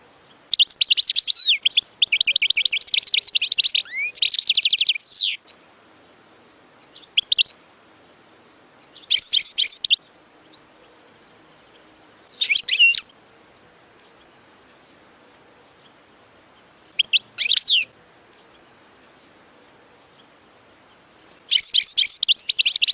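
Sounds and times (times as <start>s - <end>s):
finch twittering song: 0.1s - 22.9s.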